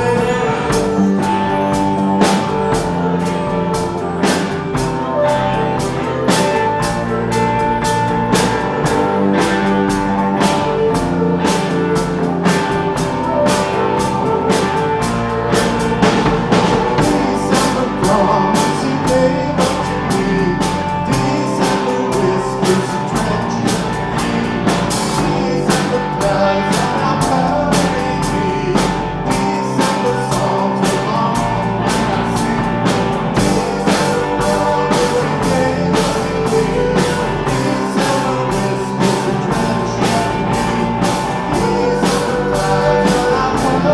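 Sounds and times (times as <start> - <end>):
drum kit beat: 0.0 - 43.9
rock band music: 0.0 - 43.9.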